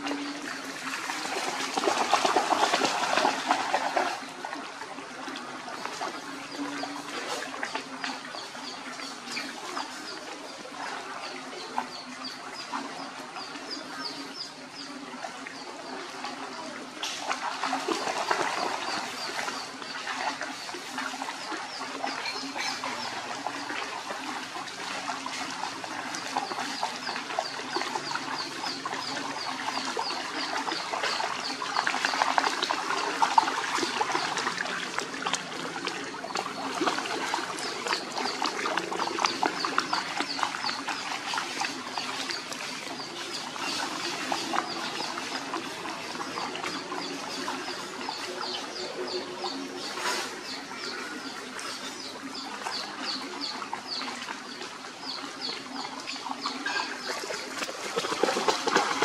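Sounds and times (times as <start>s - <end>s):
dogs splashing through water: 0.0s - 59.0s.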